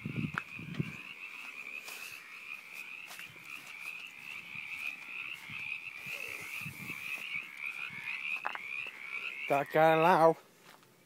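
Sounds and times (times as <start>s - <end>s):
frog trilling: 0.0s - 10.3s.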